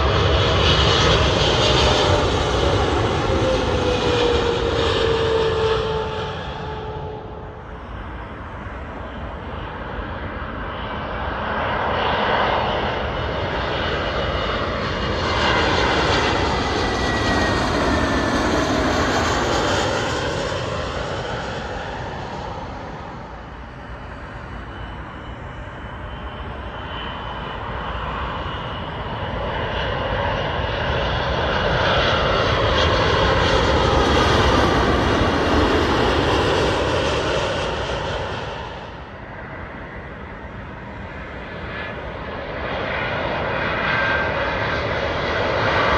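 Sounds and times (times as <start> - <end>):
jet airliner passing overhead: 0.0 - 45.9.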